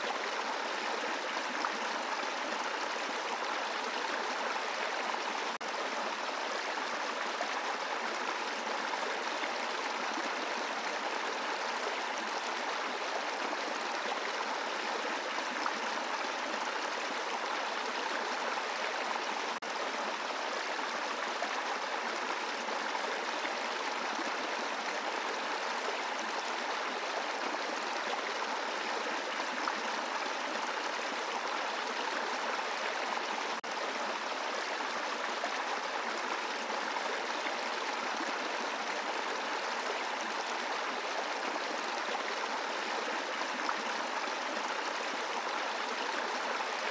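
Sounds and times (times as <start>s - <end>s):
brook flowing over rocks: 0.0s - 46.9s.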